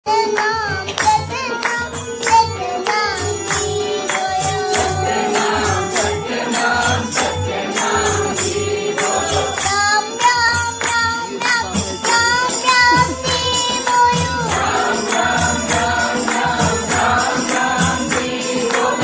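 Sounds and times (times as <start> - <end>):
child singing into a microphone: 0.0 - 7.5, 8.3 - 19.0
jingling hand percussion: 0.1 - 19.0.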